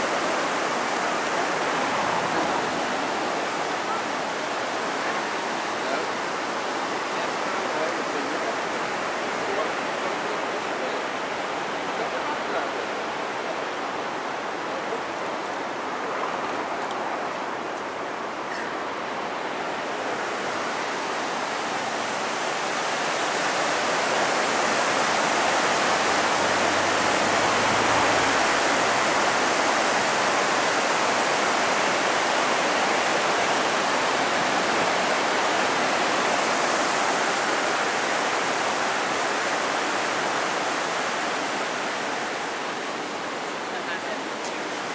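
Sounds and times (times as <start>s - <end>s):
river rapids rushing: 0.0s - 44.9s.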